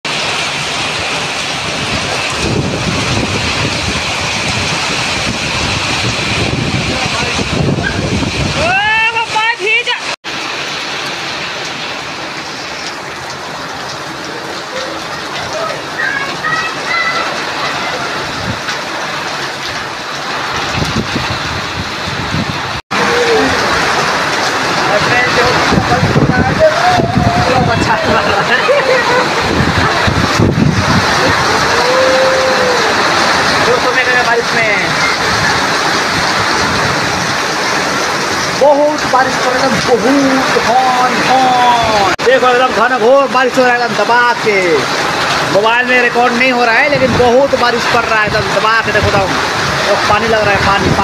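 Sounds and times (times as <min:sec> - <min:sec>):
heavy rain on concrete: 0:00.0 - 0:51.0.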